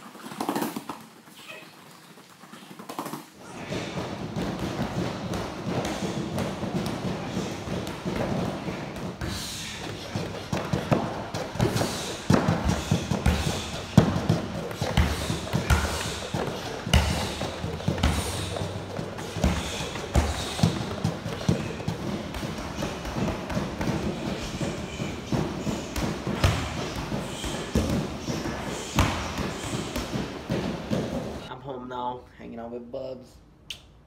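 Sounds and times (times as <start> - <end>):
battle ropes slapping mat: 0.0 - 31.5
fists striking punching bags: 3.5 - 31.5.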